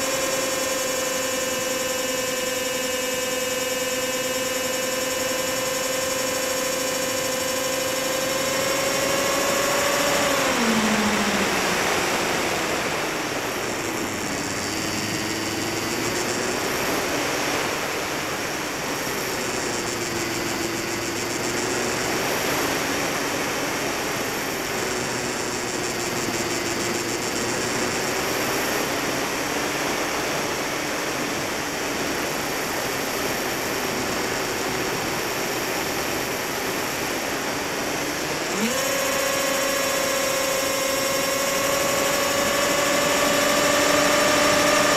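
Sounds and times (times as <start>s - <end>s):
electric motor and propeller whine: 0.0s - 44.9s.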